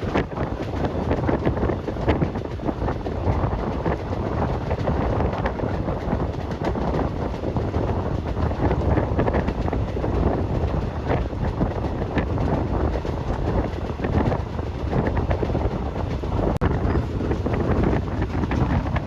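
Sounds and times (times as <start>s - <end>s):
train clicks and rattles: 0.0s - 19.0s
train wheels rumbling on rails: 0.0s - 19.0s
wind buffeting microphone: 0.0s - 19.0s.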